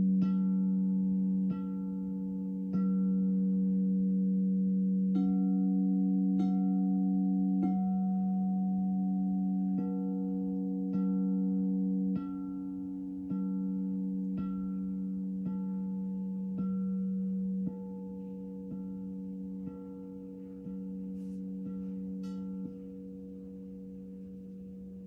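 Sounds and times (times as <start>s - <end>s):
crystal singing bowls ringing: 0.0s - 25.0s.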